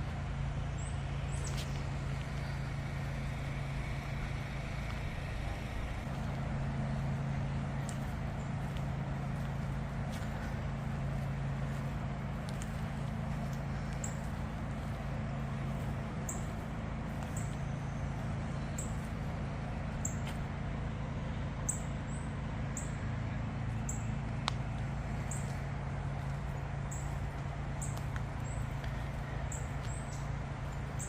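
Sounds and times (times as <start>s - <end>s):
rushing background noise: 0.0s - 31.0s
steady low hum: 0.0s - 31.0s.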